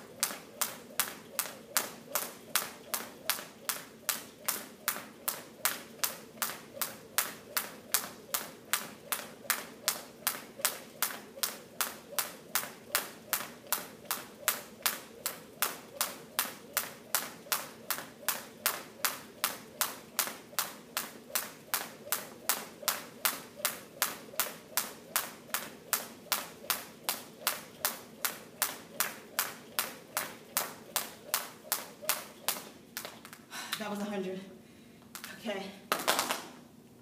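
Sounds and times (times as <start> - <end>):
jump rope slapping floor: 0.0 - 33.9, 35.1 - 36.6.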